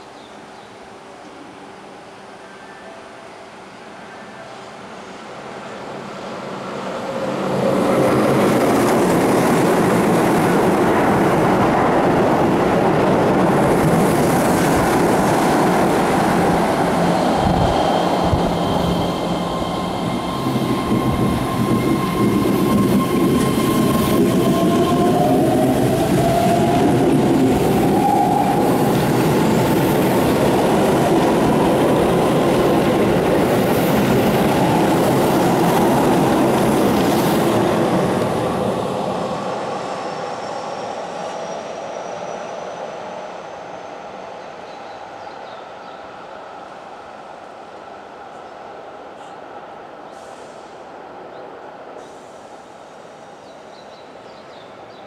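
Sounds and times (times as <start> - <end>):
electric train whine: 0.0 - 54.1
train wheels running on rails: 5.0 - 55.0.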